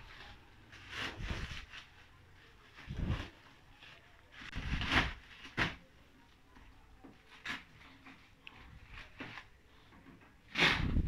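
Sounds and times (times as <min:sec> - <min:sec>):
plastic wrap rustling and crinkling: 0:00.0 - 0:05.9, 0:06.5 - 0:09.8.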